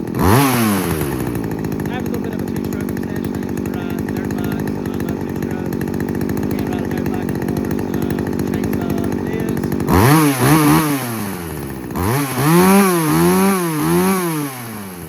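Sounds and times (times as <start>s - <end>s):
chainsaw engine idling: 0.0s - 15.0s
chainsaw engine revving: 0.0s - 15.0s.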